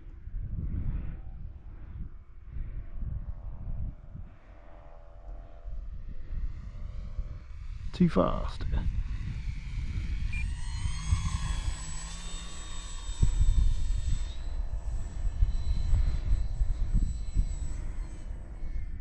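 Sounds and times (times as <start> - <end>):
wind buffeting microphone: 0.0 - 19.0
model plane motor whining: 2.8 - 19.0.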